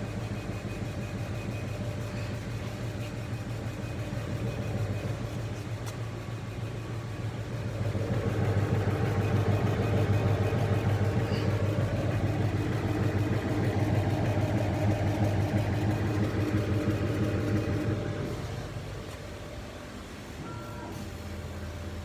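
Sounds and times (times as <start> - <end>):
laser cutting machine hum: 0.0 - 22.0.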